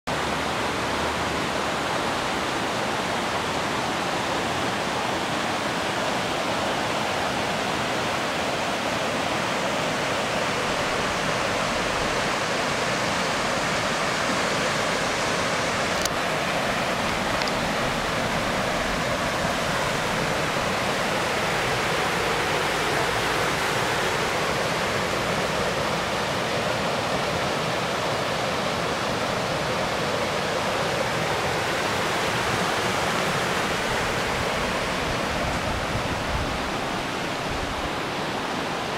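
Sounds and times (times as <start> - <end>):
river rushing over rapids: 0.1 - 38.9.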